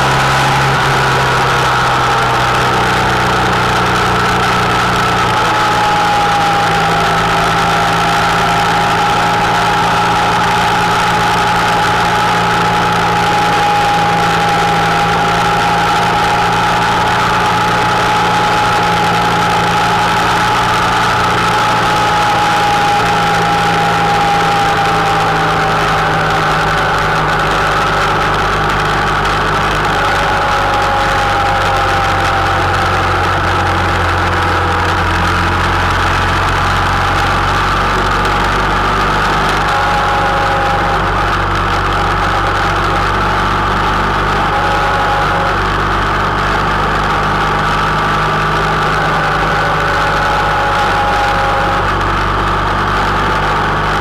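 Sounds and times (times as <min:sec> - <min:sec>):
engine whine: 0:00.0 - 0:54.0
motorcycle engine cruising: 0:00.0 - 0:54.0
road noise: 0:00.0 - 0:54.0.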